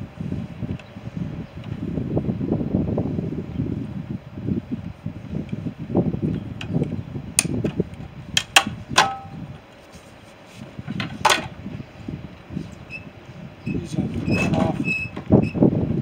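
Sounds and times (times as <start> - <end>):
low rumbling handling noise: 0.0 - 16.0.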